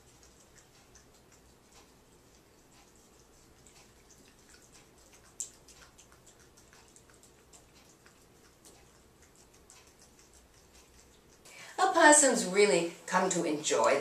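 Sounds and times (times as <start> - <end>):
opossums licking and smacking: 0.0 - 12.6.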